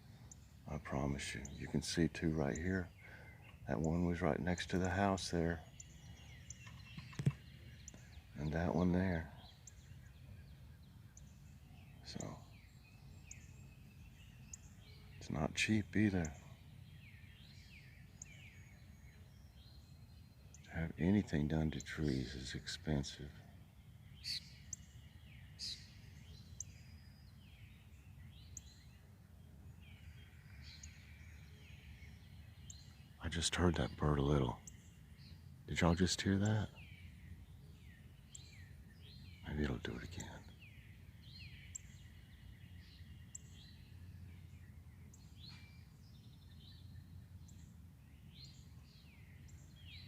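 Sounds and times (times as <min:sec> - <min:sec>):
faint birdsong chirps: 0:00.0 - 0:50.0
low steady background rumble: 0:00.0 - 0:50.0.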